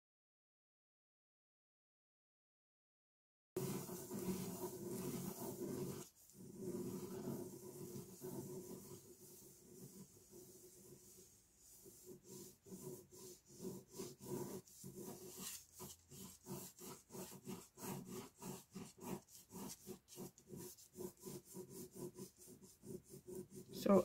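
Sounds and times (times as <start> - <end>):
pen scratching on paper: 3.6 - 24.0.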